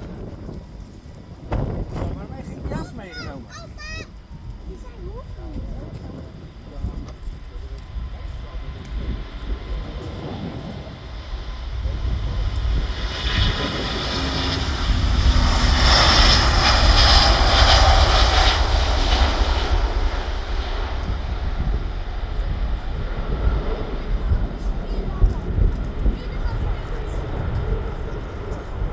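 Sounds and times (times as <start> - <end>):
jet engines taking off: 0.0 - 28.9
low rumble: 4.1 - 28.9.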